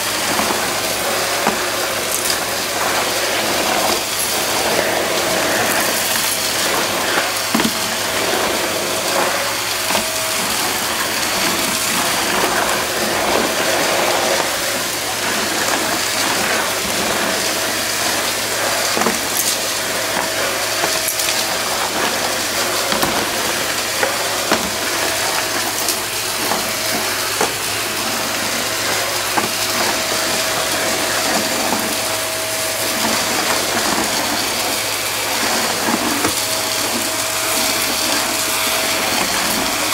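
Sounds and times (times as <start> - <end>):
stick vacuum running: 0.0 - 39.9
vacuum whine: 0.0 - 39.9.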